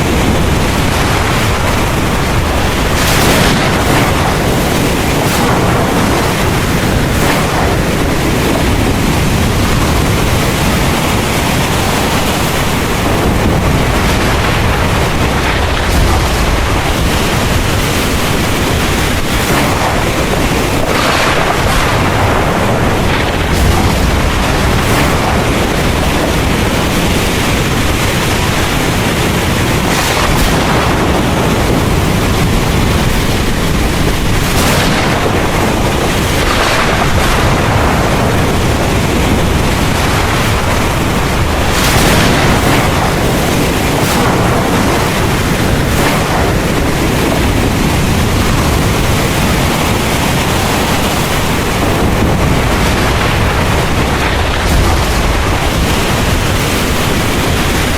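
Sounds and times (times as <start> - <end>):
deep thunder rumble: 0.0 - 57.9
heavy rain pouring: 0.0 - 57.9.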